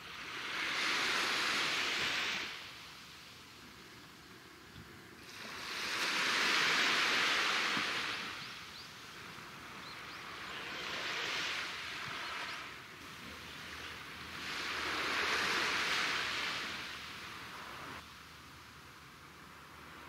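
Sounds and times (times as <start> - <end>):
small waves on sandy beach: 0.0 - 20.0.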